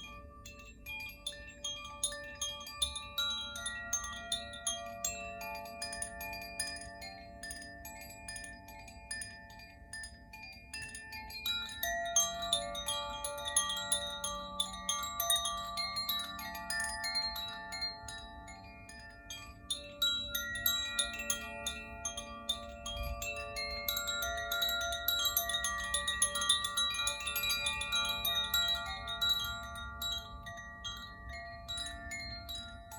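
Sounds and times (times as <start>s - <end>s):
wind chime ringing: 0.0s - 32.9s.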